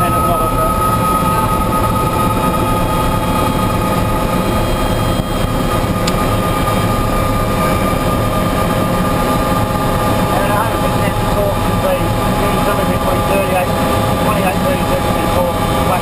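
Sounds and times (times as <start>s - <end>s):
helicopter turbine and rotor: 0.0s - 16.0s.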